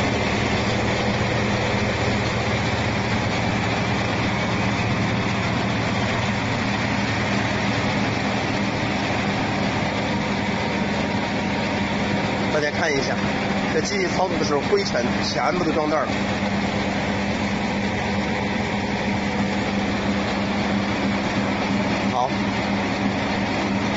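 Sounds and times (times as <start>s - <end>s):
electric motor humming: 0.0s - 23.9s
fan air rushing: 0.0s - 23.9s.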